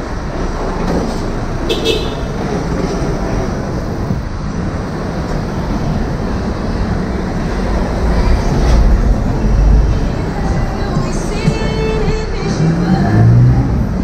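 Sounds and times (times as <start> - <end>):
heavy low rumble: 0.0 - 14.0
vehicle and road noise: 0.0 - 14.0.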